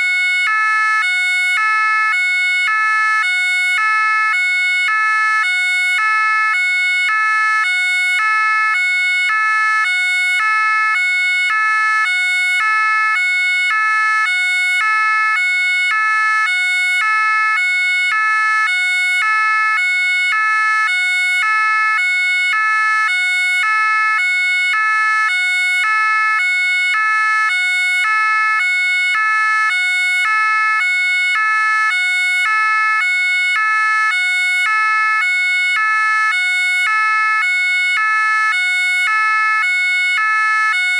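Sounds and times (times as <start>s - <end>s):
two-tone siren: 0.0s - 40.9s.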